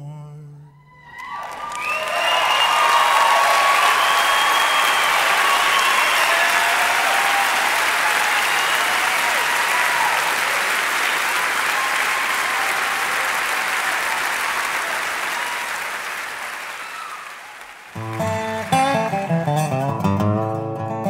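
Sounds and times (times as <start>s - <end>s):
audience applauding: 1.0s - 19.9s.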